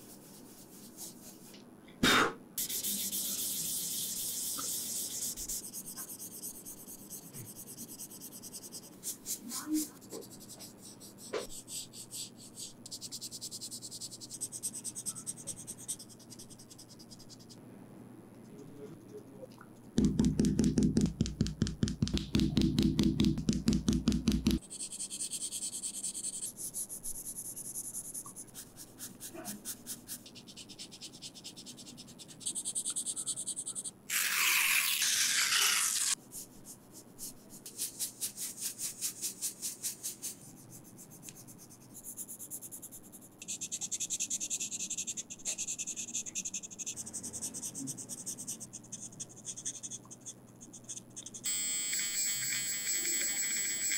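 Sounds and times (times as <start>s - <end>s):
pencils scratching on paper: 2.6s - 17.6s, 24.5s - 53.9s.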